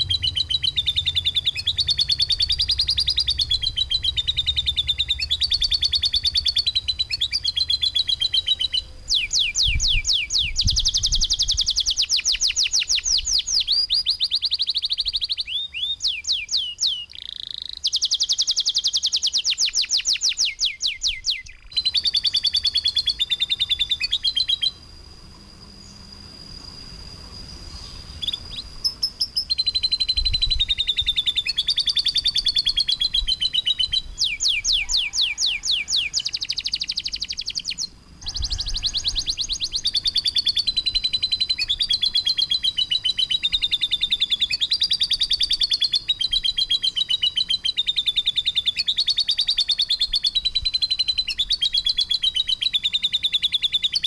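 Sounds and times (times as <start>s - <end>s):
songbird trilling: 0.0s - 54.0s.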